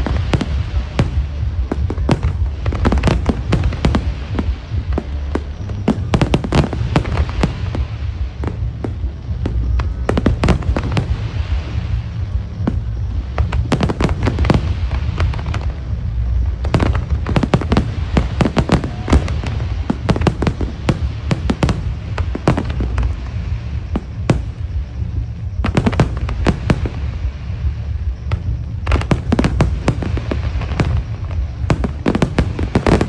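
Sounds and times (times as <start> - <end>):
fireworks bangs and crackling: 0.0 - 33.0
steady low rumble: 0.0 - 33.0.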